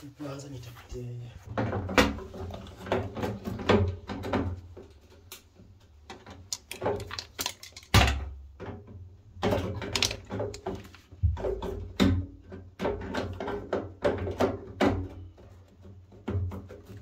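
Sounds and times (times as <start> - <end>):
hard objects knocking and clattering: 1.4 - 17.0.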